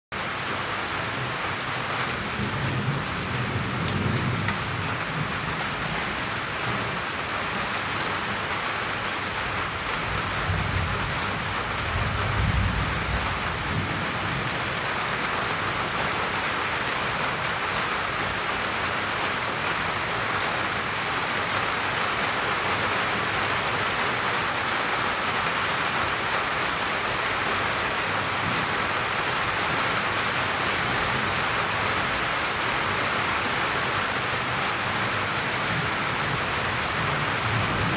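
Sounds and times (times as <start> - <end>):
steady rain falling: 0.1 - 37.9.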